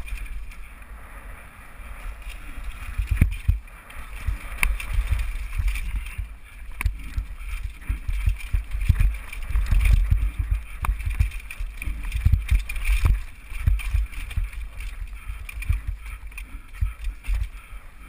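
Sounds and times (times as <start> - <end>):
mountain bike rattling over rocks: 0.0 - 0.7, 2.0 - 17.8
wind rumbling on microphone: 0.0 - 18.0
bike knocking on bumps: 2.4 - 17.7.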